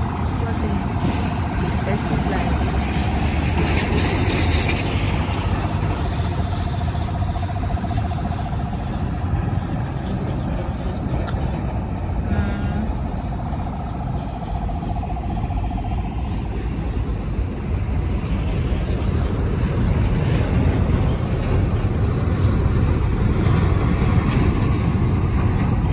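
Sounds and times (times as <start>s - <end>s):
engine drone: 0.0s - 25.9s
road traffic rumbling: 0.0s - 25.9s.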